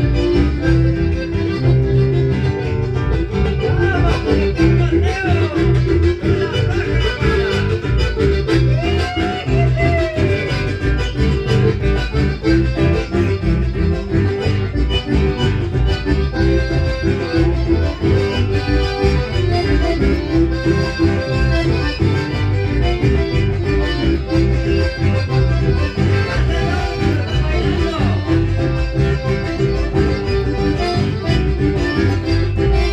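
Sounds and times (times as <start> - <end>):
accordion melody: 0.0 - 32.9
bass and steady beat: 0.0 - 32.9.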